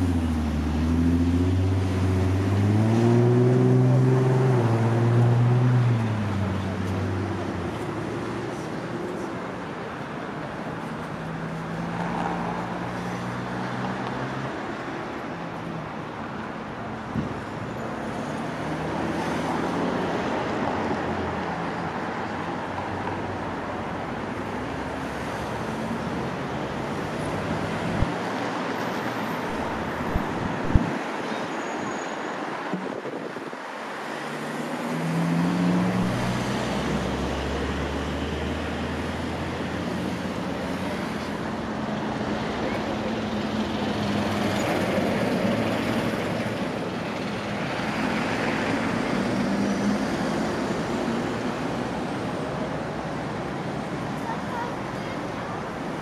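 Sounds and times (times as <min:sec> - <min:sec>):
cars and buses driving past: 0:00.0 - 0:56.0.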